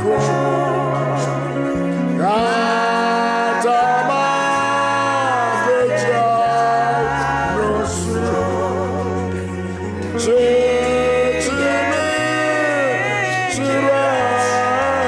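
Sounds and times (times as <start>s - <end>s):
instrumental accompaniment: 0.0s - 15.0s
person singing: 0.0s - 15.0s.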